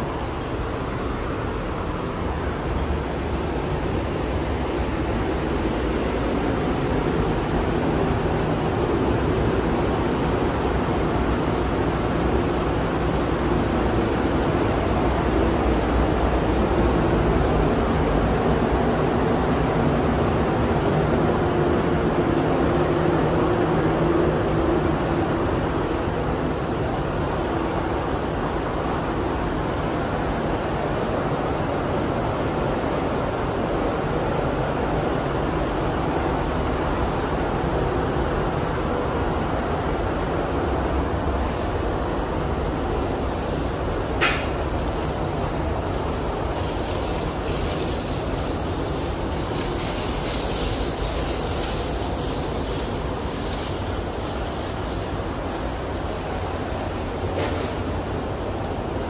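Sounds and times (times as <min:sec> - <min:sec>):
steady rushing roar: 0:00.0 - 0:59.0.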